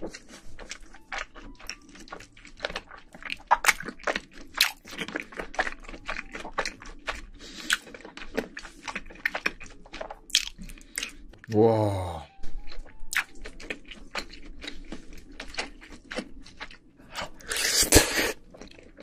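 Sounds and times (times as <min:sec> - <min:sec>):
chewing crunchy food: 0:00.0 - 0:11.6, 0:12.3 - 0:19.0.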